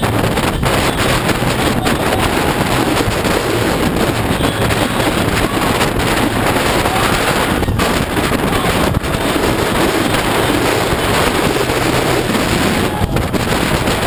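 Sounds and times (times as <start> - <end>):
motorcycle engine: 0.0 - 14.0
road noise: 0.0 - 14.0
wind rushing over microphone: 0.0 - 14.0.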